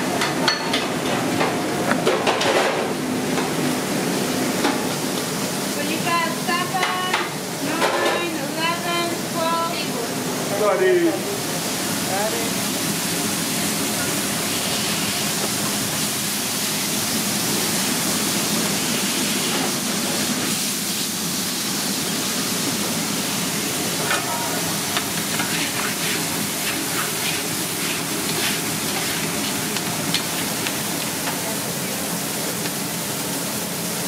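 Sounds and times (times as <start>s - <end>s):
burger patties sizzling on griddle: 2.8s - 34.0s.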